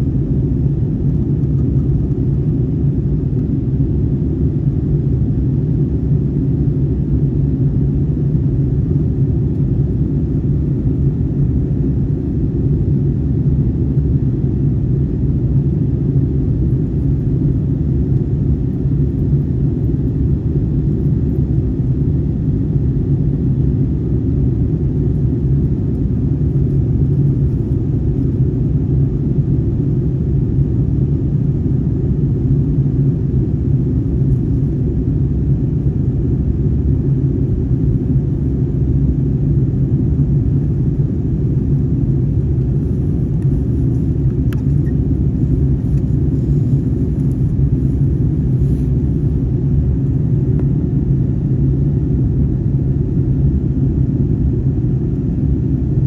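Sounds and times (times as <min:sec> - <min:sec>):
jet airliner cabin rumble: 0:00.0 - 0:56.0.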